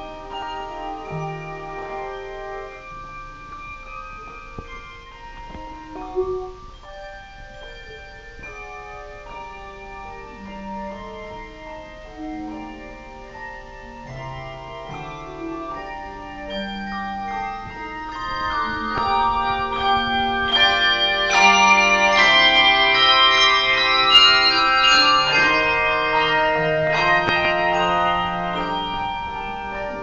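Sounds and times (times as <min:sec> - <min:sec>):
handbell choir ringing chords: 0:00.0 - 0:30.0.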